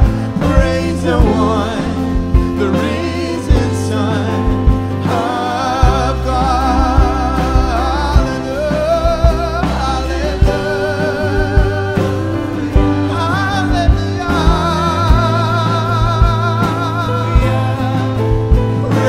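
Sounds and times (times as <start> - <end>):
instrumental worship music: 0.0 - 19.0.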